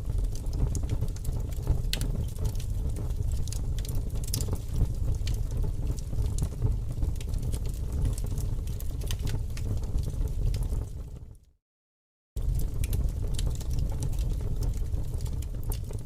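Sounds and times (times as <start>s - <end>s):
fire burning in fireplace: 0.0s - 11.4s, 12.4s - 16.0s
fire crackles and pops: 0.0s - 11.4s, 12.4s - 16.0s.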